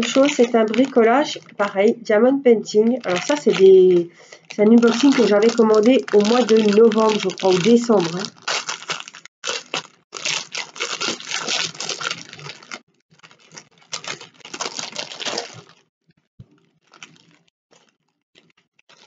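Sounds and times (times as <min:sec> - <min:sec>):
plastic bag crinkling: 0:00.0 - 0:01.9, 0:02.7 - 0:19.0.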